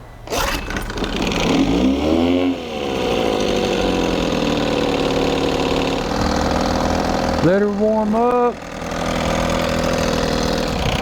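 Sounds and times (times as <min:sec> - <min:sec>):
outboard engine running: 0:00.2 - 0:11.0.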